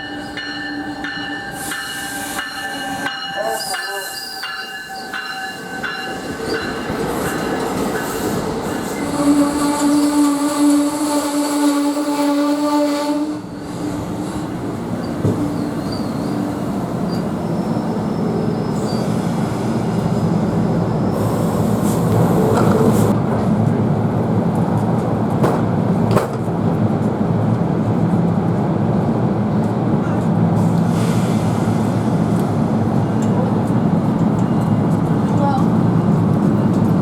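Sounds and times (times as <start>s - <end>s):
train rail rumble: 0.0s - 37.0s.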